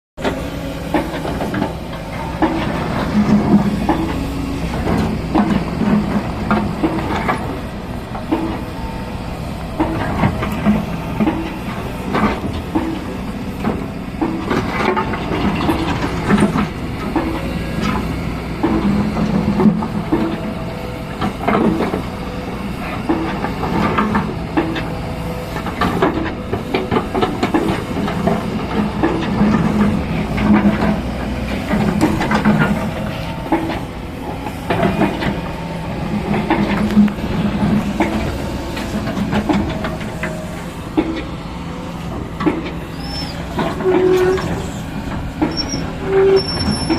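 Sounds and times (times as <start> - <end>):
excavator diesel engine: 0.2 - 46.9.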